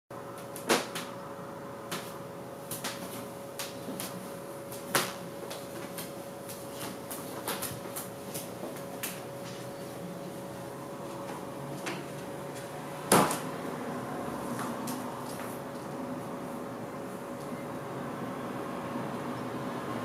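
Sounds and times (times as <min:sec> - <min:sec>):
faint hum: 0:00.1 - 0:20.0.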